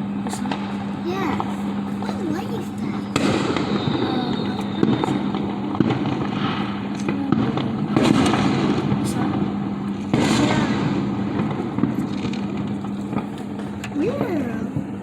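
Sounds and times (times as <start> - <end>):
steady low hum: 0.0 - 15.0
fireworks bangs and crackling: 0.1 - 15.0.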